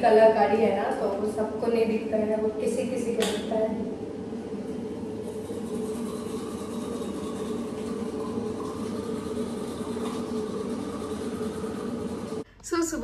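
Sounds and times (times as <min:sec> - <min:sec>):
steady machine hum and hiss: 0:00.0 - 0:13.0.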